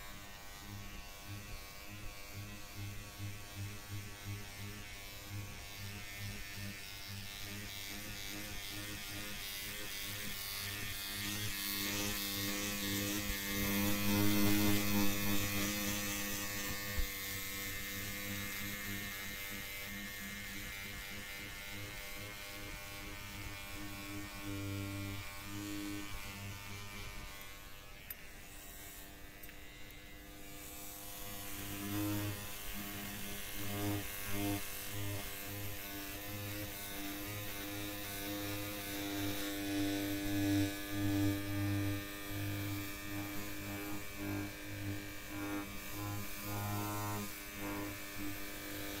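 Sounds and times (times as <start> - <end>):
electric hair clippers buzzing: 0.0 - 49.0.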